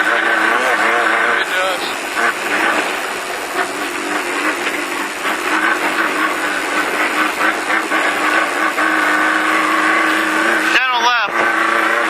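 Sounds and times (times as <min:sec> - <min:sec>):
race car engine drone: 0:00.0 - 0:12.0.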